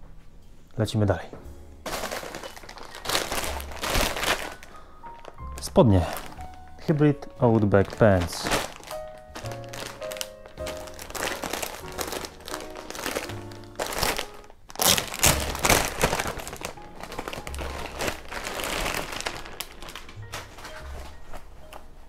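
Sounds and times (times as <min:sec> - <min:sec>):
background music: 0:00.0 - 0:22.0
plastic bag crinkling: 0:01.8 - 0:21.9.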